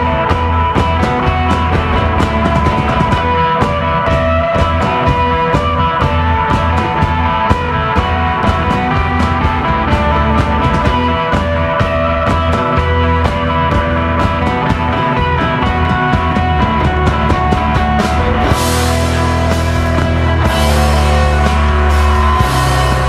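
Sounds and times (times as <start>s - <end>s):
drums and cymbal hits: 0.0s - 23.0s
electric guitar tones: 0.0s - 23.0s
heavy bass line: 0.0s - 23.0s.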